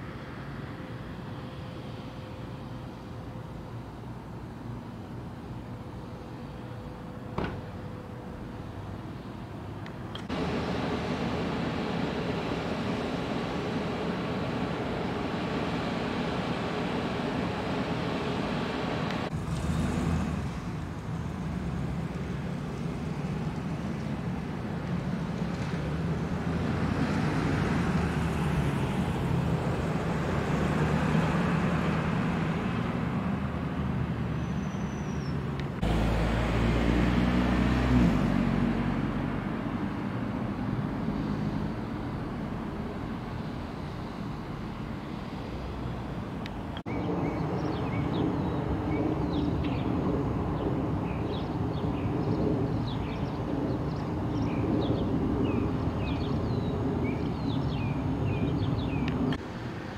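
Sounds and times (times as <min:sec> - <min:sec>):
traffic rumble: 0:00.0 - 0:59.9.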